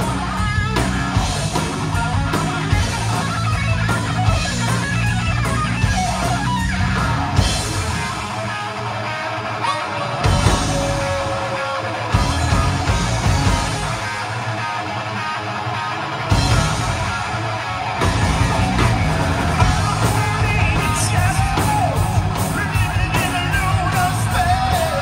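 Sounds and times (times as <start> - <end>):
drum kit: 0.0 - 8.6, 10.1 - 14.9, 16.2 - 25.0
bass guitar: 0.0 - 25.0
distorted electric guitars: 0.0 - 25.0.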